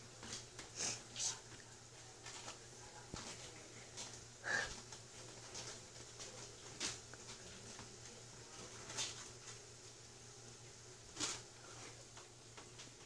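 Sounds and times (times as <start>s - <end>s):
faint rustling and patter: 0.0s - 13.0s
steady low hum: 0.0s - 13.0s.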